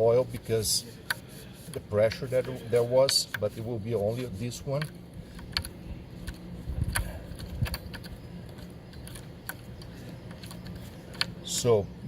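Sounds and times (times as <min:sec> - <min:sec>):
hand tools and metal parts clicking: 0:00.0 - 0:11.8
faint low hum: 0:00.0 - 0:12.0.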